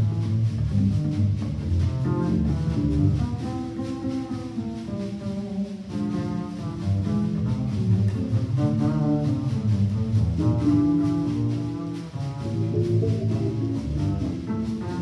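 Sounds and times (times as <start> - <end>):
drums: 0.0 - 15.0
guitars playing jazz melody: 0.0 - 15.0
walking double bass line: 0.0 - 15.0.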